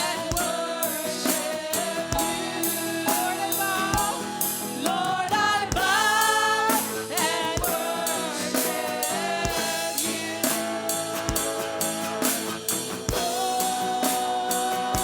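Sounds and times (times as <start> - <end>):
singers singing gospel: 0.0 - 15.0.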